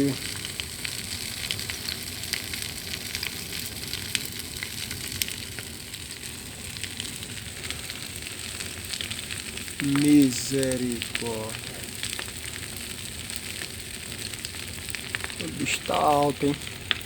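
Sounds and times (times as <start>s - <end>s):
bonfire flames rushing: 0.0s - 17.0s
fire crackling and popping: 0.0s - 17.0s.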